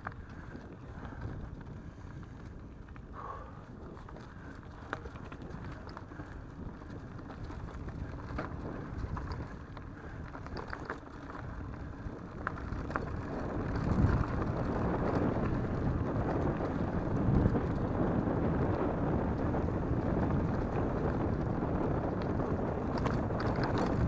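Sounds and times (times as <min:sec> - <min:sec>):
bike clicks and rattles: 0:00.0 - 0:24.0
bike tyre rumble on dirt: 0:00.0 - 0:24.0
wind on microphone: 0:00.0 - 0:24.0.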